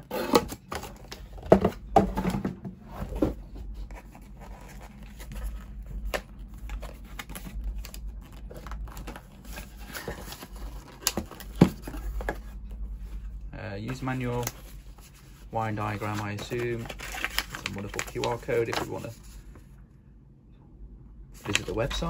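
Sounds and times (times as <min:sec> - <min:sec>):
cardboard scraping and crinkling: 0:00.0 - 0:12.6, 0:13.8 - 0:19.6.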